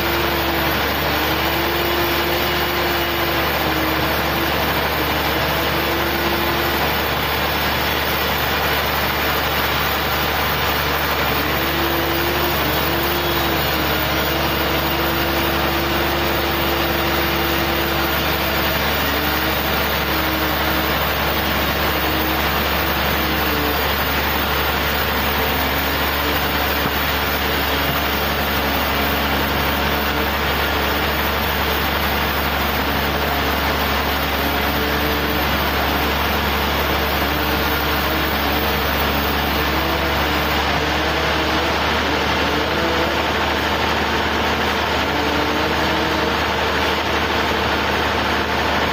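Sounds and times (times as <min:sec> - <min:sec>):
sawmill machine drone: 0:00.0 - 0:48.9.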